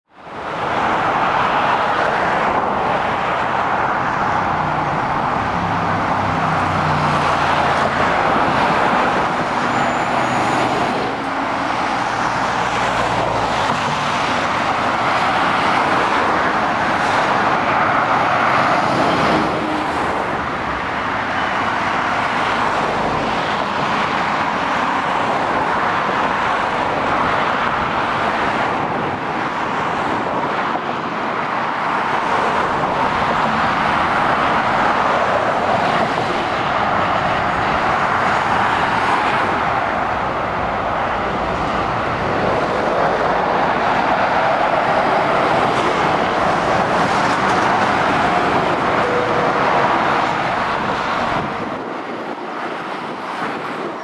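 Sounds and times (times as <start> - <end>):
motorway traffic rush: 0.0 - 54.0
lorry diesel engine drone: 1.8 - 24.3, 32.3 - 54.0.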